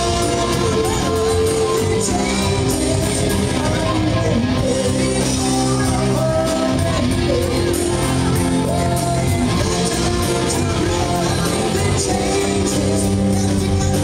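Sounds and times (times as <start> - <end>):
bass guitar: 0.0 - 14.0
drums with cymbals: 0.0 - 14.0
electric guitar: 0.0 - 14.0
keyboard: 0.0 - 14.0
man singing into microphone: 0.0 - 14.0.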